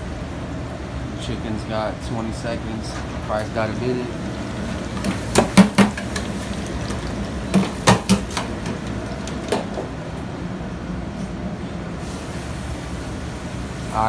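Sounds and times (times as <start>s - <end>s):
deep fryers bubbling: 0.0s - 14.0s
exhaust hood running: 0.0s - 14.0s.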